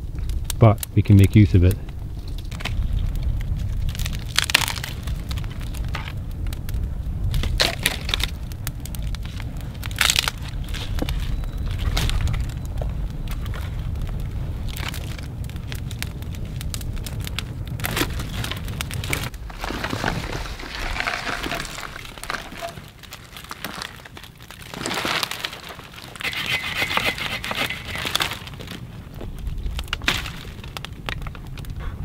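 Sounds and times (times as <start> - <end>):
twigs crackling and snapping: 0.0 - 31.9.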